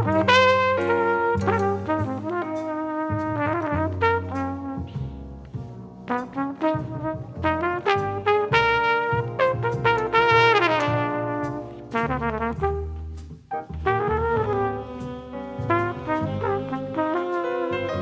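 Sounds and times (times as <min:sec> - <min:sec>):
big jazz band playing: 0:00.0 - 0:18.0.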